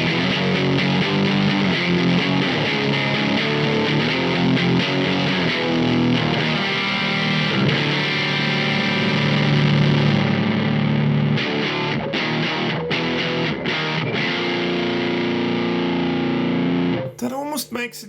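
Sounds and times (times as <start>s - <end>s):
distorted electric guitar chords: 0.0s - 17.1s.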